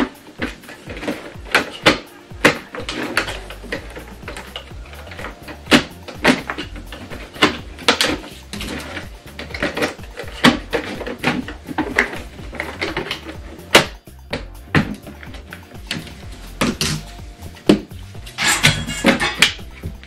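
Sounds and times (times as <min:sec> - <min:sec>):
quiet background music: 0:00.0 - 0:20.0.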